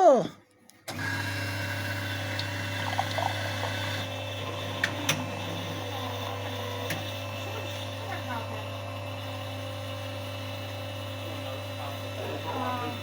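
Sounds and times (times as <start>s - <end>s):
coffee machine mechanical hum: 0.8s - 13.0s.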